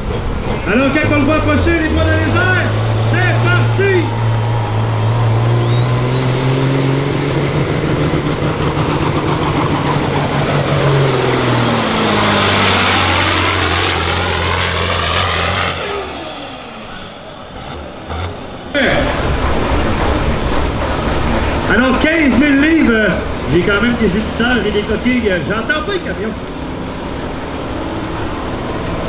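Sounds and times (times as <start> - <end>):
truck diesel engine revving hard: 0.0 - 29.0.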